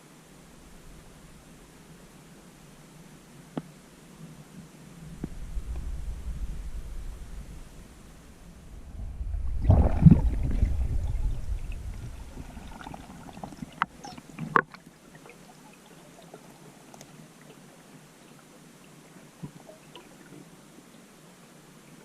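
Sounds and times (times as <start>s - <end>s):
water rushing and gurgling: 0.0s - 21.9s.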